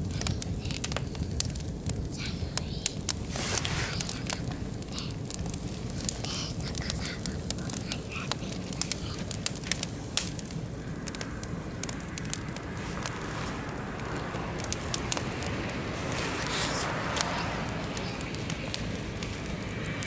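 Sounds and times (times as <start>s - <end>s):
fire hissing: 0.0s - 20.0s
low rumble of flame: 0.0s - 20.0s
wood fire crackling and popping: 0.0s - 20.0s.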